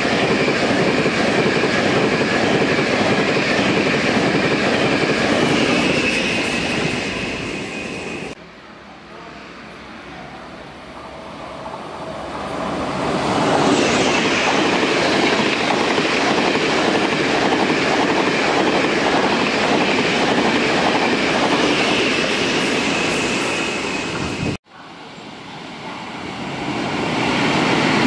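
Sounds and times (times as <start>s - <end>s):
train passing with loud rush: 0.0s - 28.0s.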